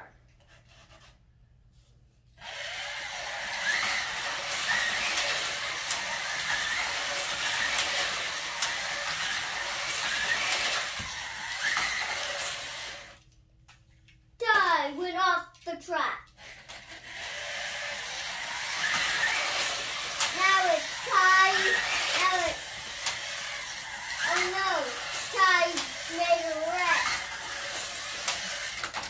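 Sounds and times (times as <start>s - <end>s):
slot cars whirring: 2.4s - 13.3s, 16.2s - 29.0s.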